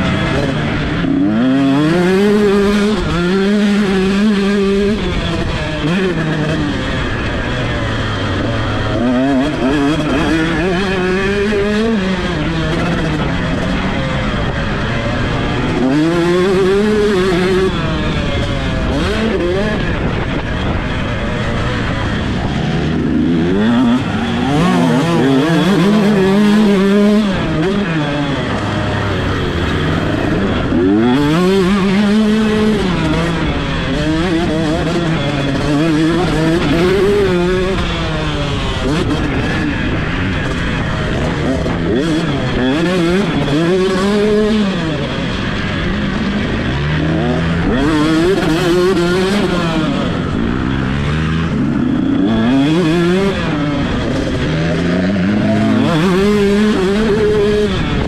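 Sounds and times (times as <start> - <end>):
motocross bike revving: 0.0 - 58.0.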